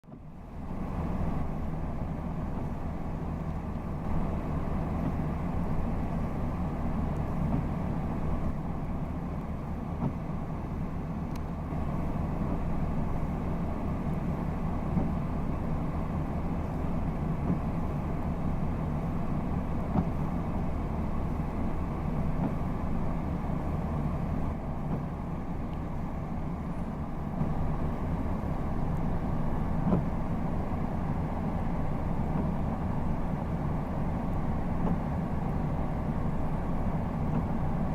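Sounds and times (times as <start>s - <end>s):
vehicle engine idling: 0.0s - 37.9s.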